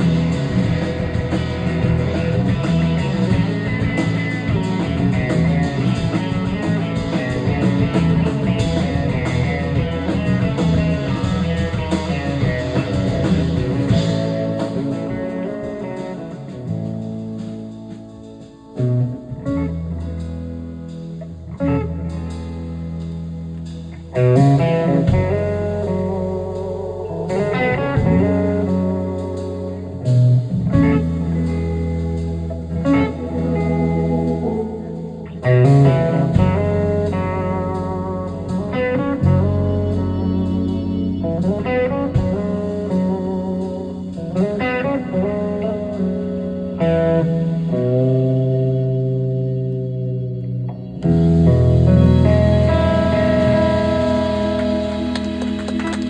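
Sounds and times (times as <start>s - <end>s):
bass line: 0.0s - 56.0s
electric guitar: 0.0s - 56.0s
live blues-rock band: 0.0s - 56.0s.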